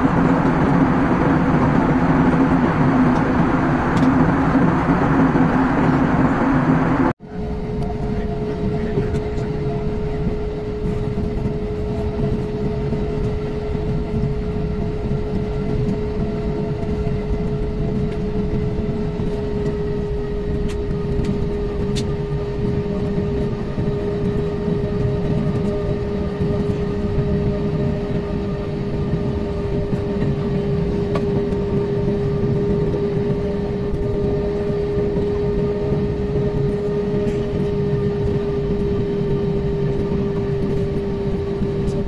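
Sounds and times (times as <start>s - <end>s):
jet cabin rumble: 0.0s - 42.0s
jet engine whine: 0.0s - 42.0s.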